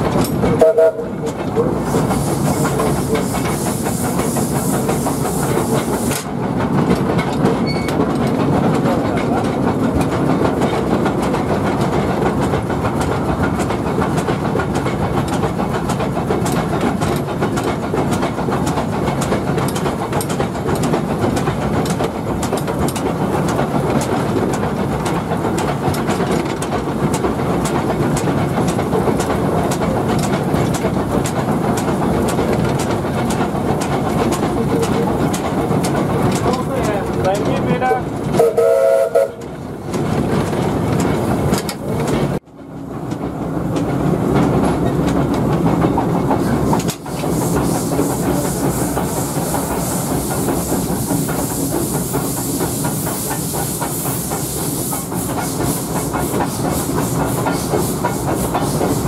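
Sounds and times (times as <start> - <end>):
steam locomotive running: 0.0 - 59.0
wheels clicking over rails: 0.0 - 59.0.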